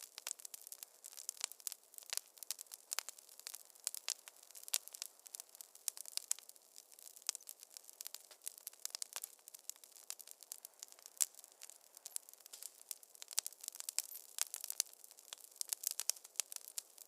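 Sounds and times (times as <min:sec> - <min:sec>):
faint hiss: 0:00.0 - 0:17.0
wood fire crackling: 0:00.0 - 0:17.0.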